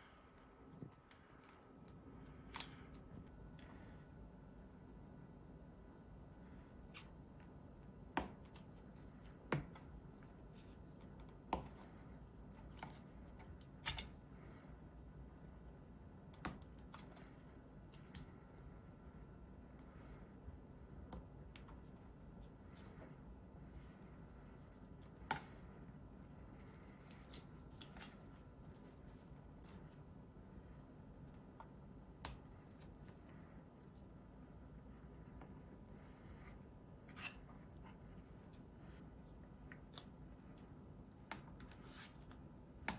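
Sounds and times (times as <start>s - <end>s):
faint room noise: 0.0s - 42.9s.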